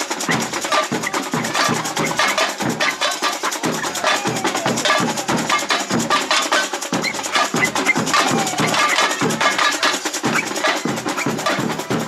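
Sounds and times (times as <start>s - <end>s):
fast snare and hand percussion: 0.0s - 12.0s.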